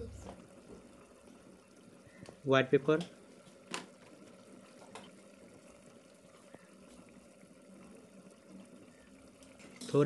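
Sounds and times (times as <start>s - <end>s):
curry bubbling in a pot: 0.1s - 10.0s.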